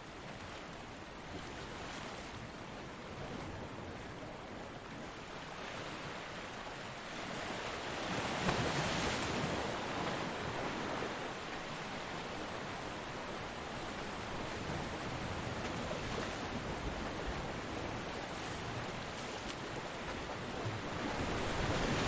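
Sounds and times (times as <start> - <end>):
ocean waves washing on beach: 0.0 - 22.0.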